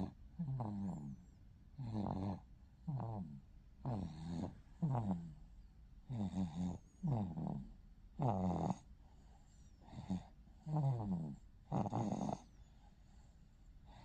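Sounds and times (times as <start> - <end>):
whining snoring: 0.0 - 14.0.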